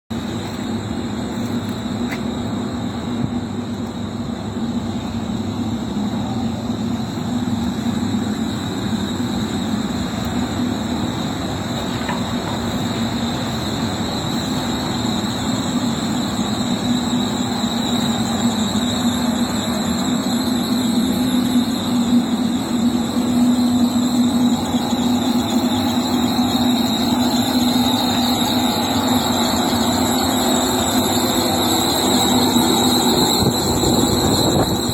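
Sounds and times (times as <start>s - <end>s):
high-pitched whine: 0.1s - 34.9s.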